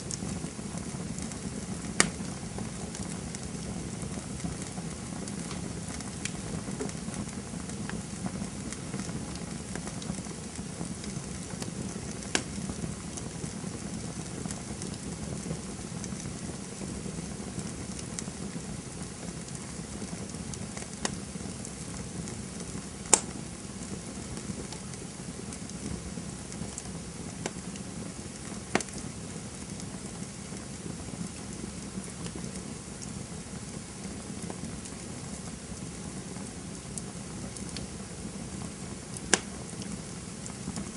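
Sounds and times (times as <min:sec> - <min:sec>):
campfire flames rushing: 0:00.0 - 0:40.9
wood crackling and popping: 0:00.0 - 0:40.9.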